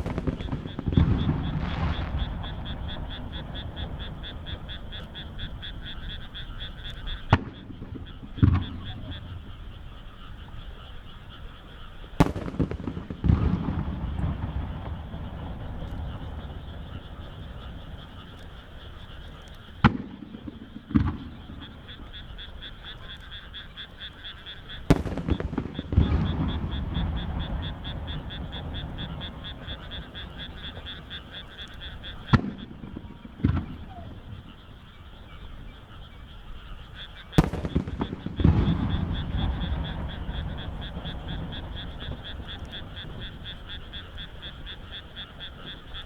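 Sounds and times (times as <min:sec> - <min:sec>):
chorus of frogs: 0:00.0 - 0:46.0
firework shells exploding: 0:00.0 - 0:46.0.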